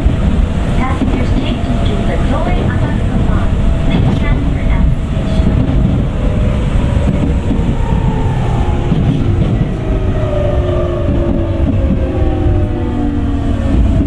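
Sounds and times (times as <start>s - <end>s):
electric train inverter whine: 0.0s - 14.0s
rumble of train wheels: 0.0s - 14.0s.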